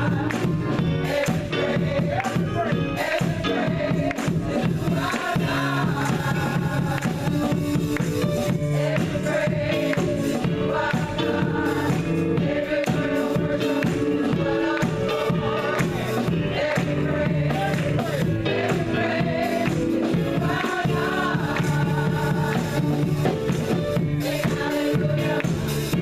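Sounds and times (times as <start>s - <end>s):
band playing: 0.0s - 26.0s
women's choir singing gospel: 0.0s - 26.0s.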